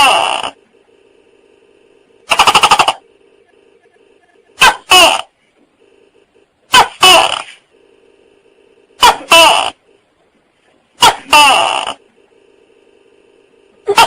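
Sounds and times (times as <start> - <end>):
faint steady drone: 0.0 - 14.0.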